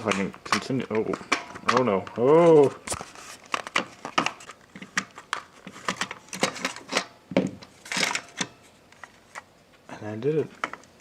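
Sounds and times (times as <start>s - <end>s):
plastic parts clicking and snapping: 0.0s - 9.4s, 10.5s - 10.9s.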